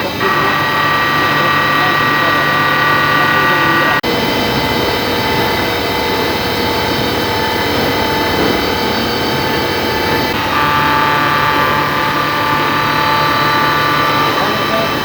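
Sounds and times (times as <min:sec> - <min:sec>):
milling machine cutting steel: 0:00.0 - 0:15.0
whining tones: 0:00.0 - 0:15.0.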